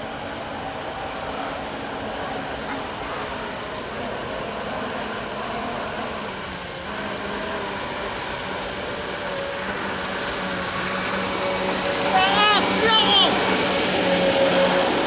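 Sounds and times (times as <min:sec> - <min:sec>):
water rushing: 0:00.0 - 0:15.0
electric motor whine: 0:00.2 - 0:15.0.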